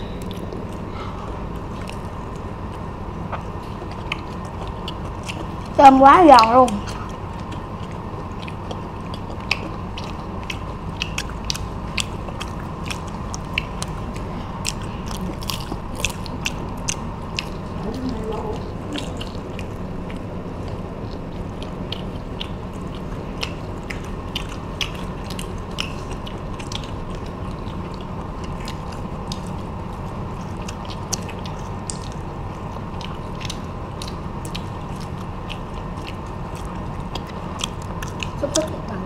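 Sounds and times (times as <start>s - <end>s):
crunching and chewing fried food: 0.0s - 39.0s
low background hum: 0.0s - 39.0s.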